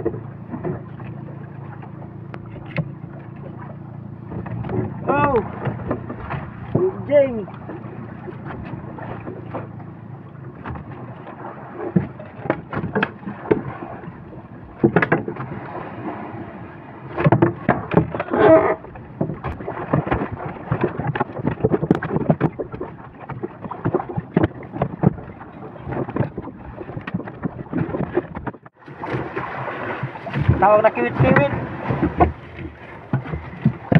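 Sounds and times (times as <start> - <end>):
knocks and clatter on boat: 0.0 - 33.9
water noise: 0.0 - 33.9.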